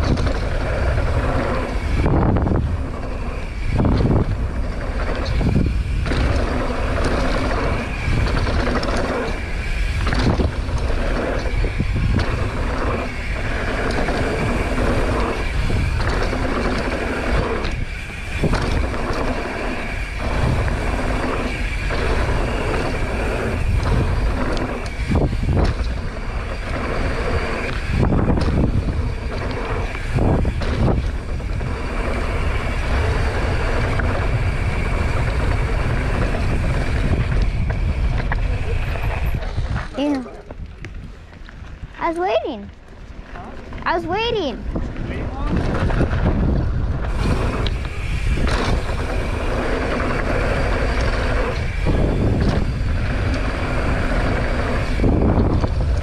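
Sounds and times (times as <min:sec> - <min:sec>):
bike tyres rumbling over dirt: 0:00.0 - 0:42.0, 0:44.6 - 0:56.0
wind buffeting microphone: 0:00.0 - 0:56.0.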